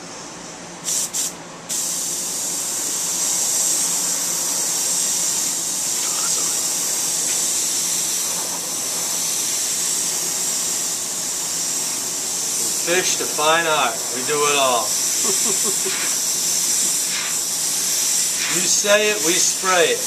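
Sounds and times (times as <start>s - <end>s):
airbrush spraying hiss: 0.8s - 20.0s.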